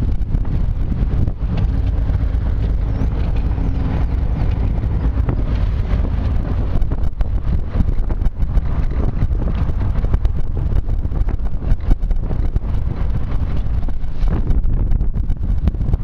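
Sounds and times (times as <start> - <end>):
truck rumble: 0.0 - 16.0
wind buffeting microphone: 0.0 - 16.0.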